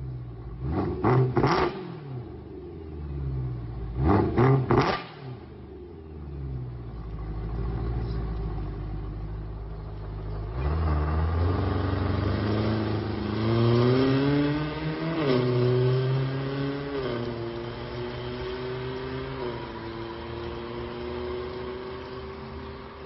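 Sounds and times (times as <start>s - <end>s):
car engine and exhaust revving: 0.0s - 23.0s.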